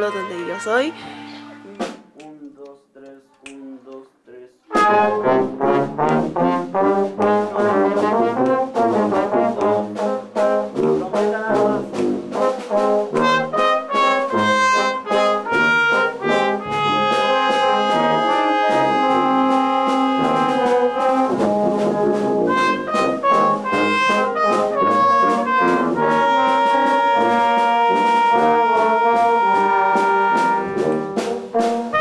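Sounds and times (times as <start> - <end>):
wind band playing: 0.0 - 2.0, 4.7 - 32.0.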